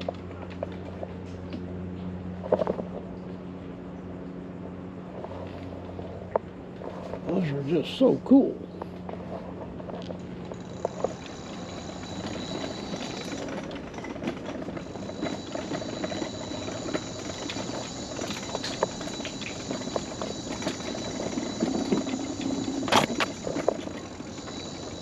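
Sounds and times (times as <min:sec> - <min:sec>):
wheels clicking over wooden planks: 0:00.0 - 0:03.5, 0:05.1 - 0:25.0
mobility scooter motor whine: 0:00.0 - 0:25.0.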